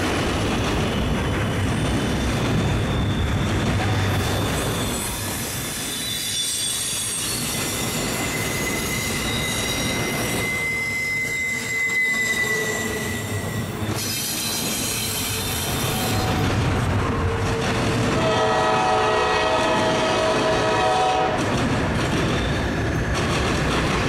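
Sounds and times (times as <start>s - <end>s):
train wheels squealing on rails: 0.0s - 21.2s, 21.9s - 24.0s
freight train rumbling: 0.0s - 24.0s.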